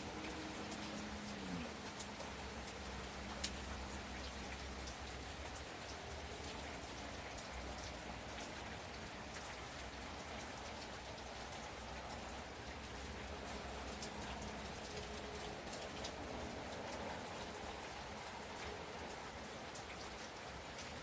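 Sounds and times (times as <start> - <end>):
gentle rain falling: 0.0 - 21.0.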